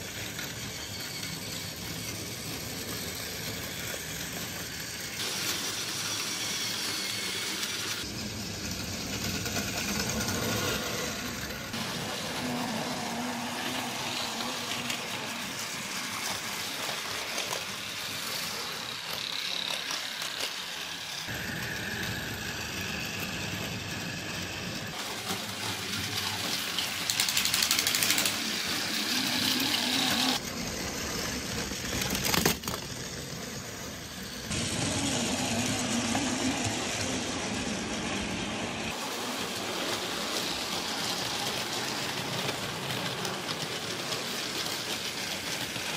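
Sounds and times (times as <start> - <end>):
toy train motors whirring: 0.0 - 45.9.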